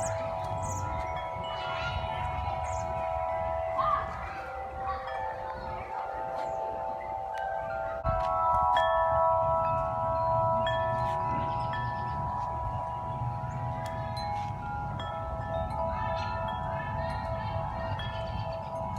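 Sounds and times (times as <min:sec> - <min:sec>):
low wind rumble: 0:00.0 - 0:06.3, 0:06.9 - 0:18.9
large wind chimes ringing: 0:00.0 - 0:18.9.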